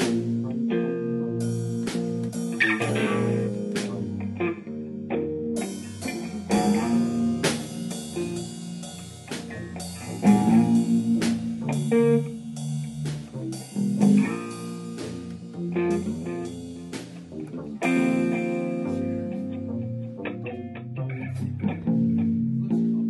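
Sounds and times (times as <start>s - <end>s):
bluesy band music: 0.0s - 22.5s.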